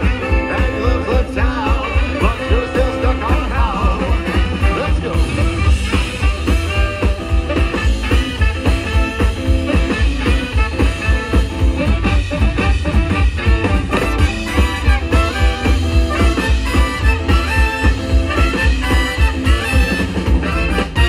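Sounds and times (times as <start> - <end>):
swing band playing: 0.0 - 21.0.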